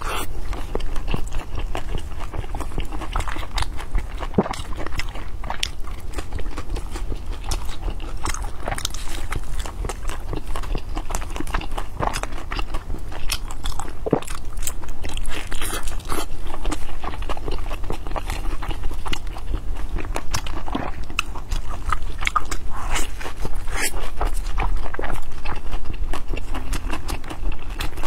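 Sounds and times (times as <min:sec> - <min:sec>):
chewing and biting food: 0:00.0 - 0:28.0.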